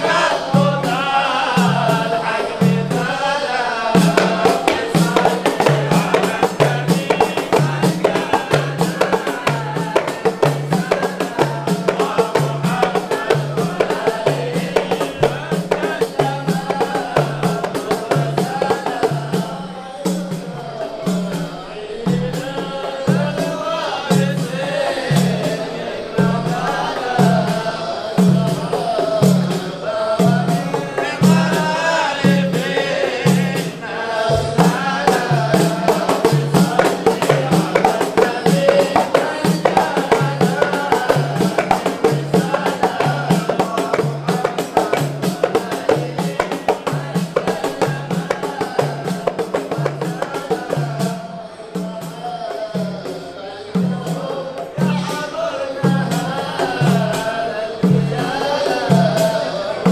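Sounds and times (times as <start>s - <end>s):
frame drums beating: 0.0s - 59.9s
men chanting together: 0.0s - 59.9s.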